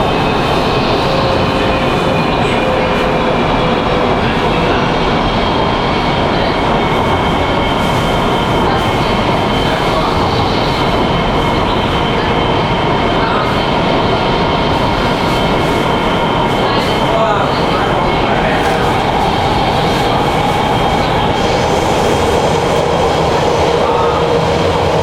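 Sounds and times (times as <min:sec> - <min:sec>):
subway wheels rumbling on rails: 0:00.0 - 0:25.0.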